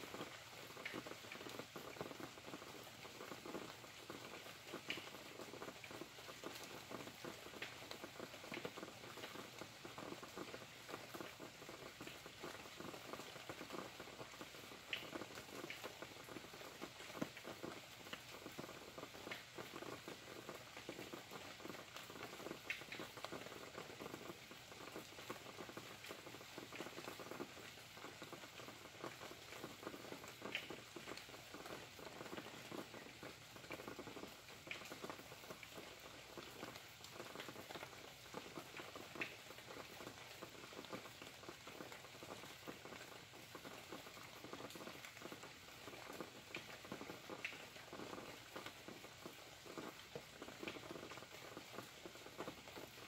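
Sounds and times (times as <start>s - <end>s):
faint rain patter: 0.0s - 53.0s
sharp drip ticks: 0.0s - 53.0s.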